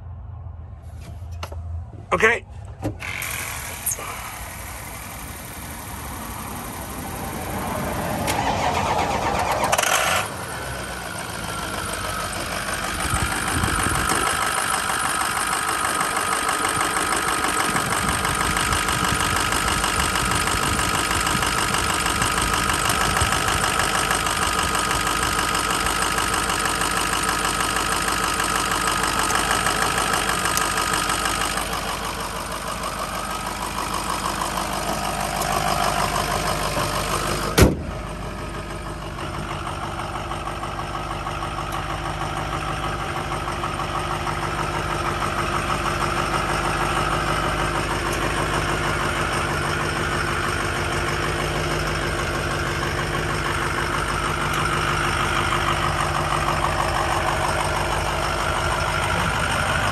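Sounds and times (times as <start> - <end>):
diesel engine starting and idling: 0.0 - 59.9.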